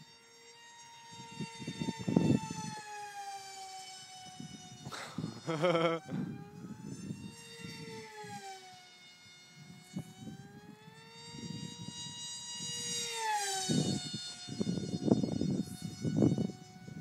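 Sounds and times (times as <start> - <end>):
electric motor propeller whine: 0.0 - 17.0.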